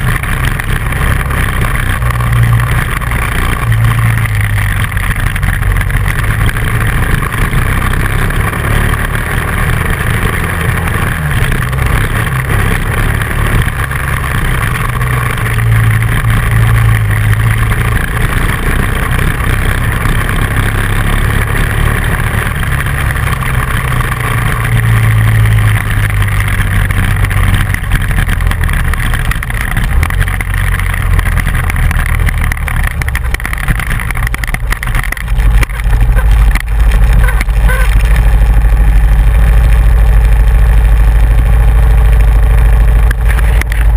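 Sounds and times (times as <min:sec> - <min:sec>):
motorcycle engine running: 0:00.0 - 0:43.9
steady rushing noise: 0:00.0 - 0:43.9.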